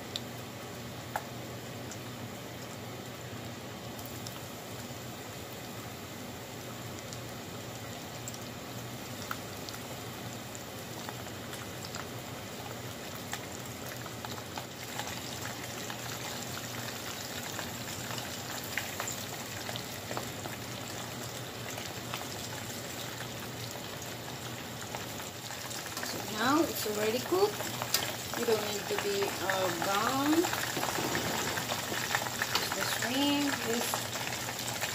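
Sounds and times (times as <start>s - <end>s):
shrimp sizzling in hot oil: 3.9s - 34.9s.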